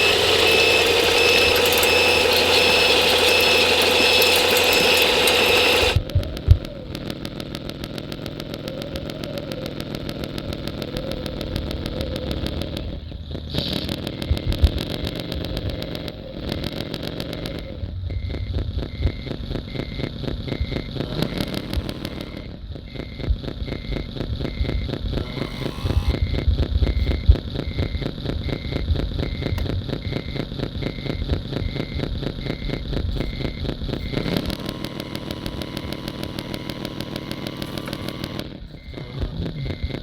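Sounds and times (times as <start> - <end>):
model truck electric motor whine: 0.0 - 26.5, 28.2 - 40.0.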